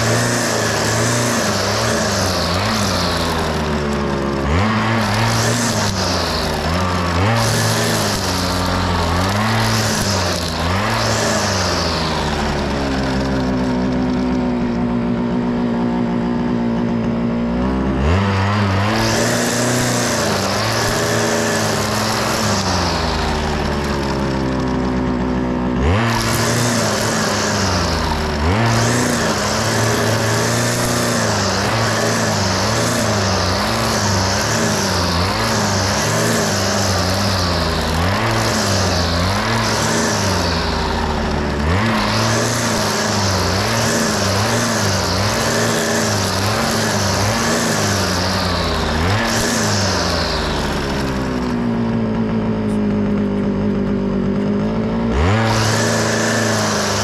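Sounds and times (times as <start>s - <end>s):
string trimmer engine revving: 0.0s - 57.0s.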